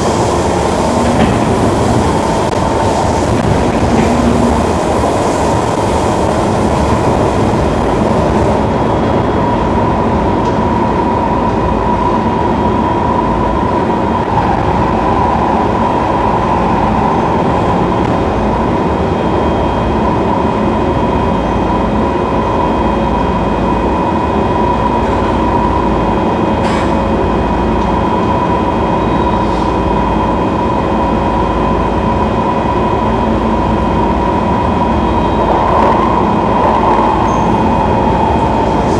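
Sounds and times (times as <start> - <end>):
high train whine: 0.0 - 38.9
train wheels rumbling on rail: 0.0 - 38.9.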